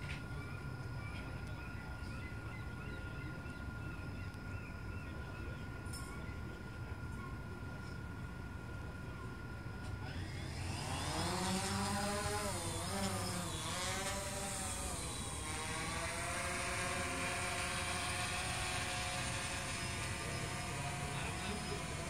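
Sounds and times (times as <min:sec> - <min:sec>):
drone rotors buzzing whine: 0:00.0 - 0:22.0.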